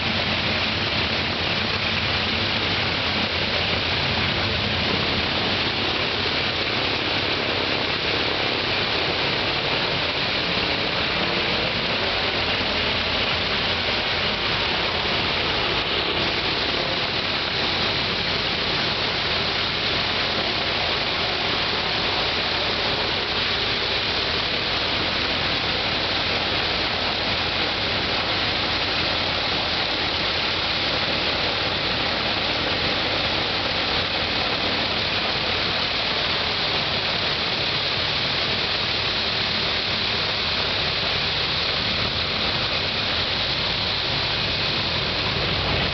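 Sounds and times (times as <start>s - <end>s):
radial aircraft engine running: 0.0s - 45.9s.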